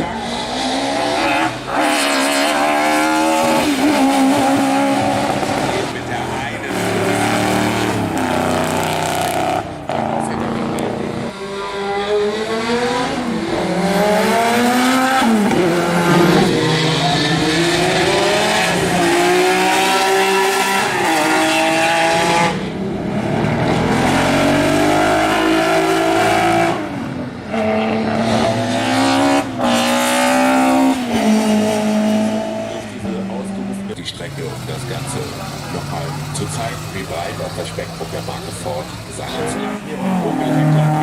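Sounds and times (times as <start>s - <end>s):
car engine accelerating through gears: 0.0s - 41.0s.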